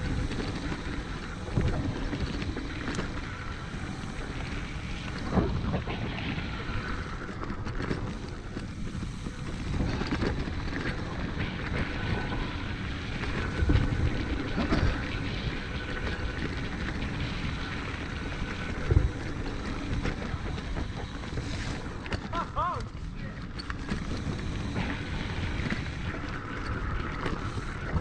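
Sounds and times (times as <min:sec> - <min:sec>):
bike rattling over bumps: 0:00.0 - 0:28.0
tyres rolling on dirt: 0:00.0 - 0:28.0.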